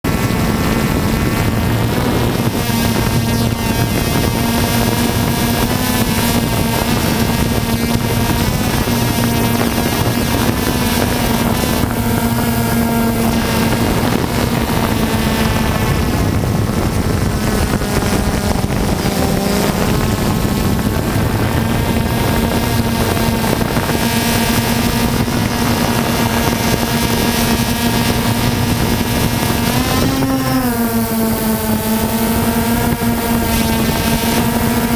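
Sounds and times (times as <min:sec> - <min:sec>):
wind on microphone: 0:00.0 - 0:34.9
drone motors whining: 0:00.1 - 0:34.9.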